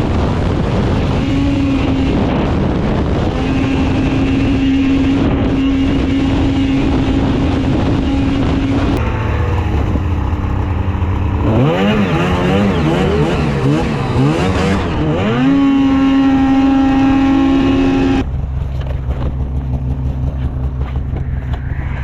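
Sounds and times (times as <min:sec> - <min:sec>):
snowmobile engine whining: 0:00.0 - 0:22.0
wind noise: 0:00.0 - 0:22.0.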